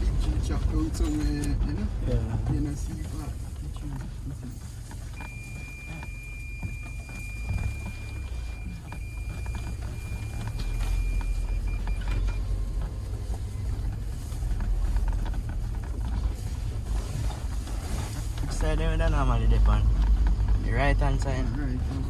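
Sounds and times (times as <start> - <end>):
vehicle driving rumble: 0.0 - 22.0.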